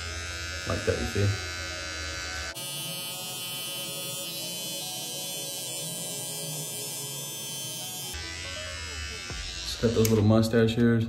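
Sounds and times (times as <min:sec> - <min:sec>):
electric hair trimmer buzzing: 0:00.0 - 0:10.6.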